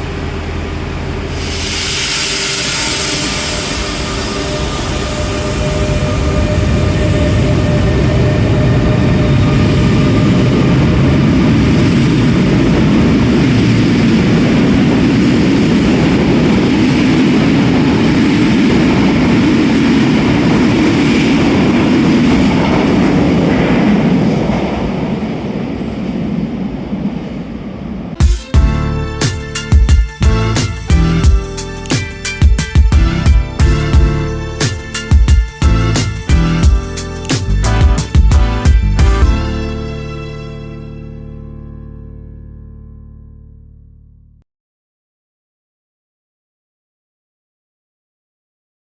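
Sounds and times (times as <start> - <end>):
electric train rumbling past: 0.0 - 41.5.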